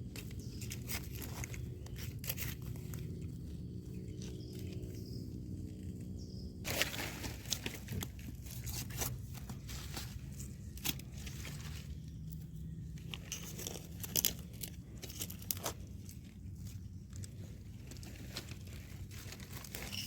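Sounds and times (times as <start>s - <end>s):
dry crackling rustle: 0.0s - 20.0s.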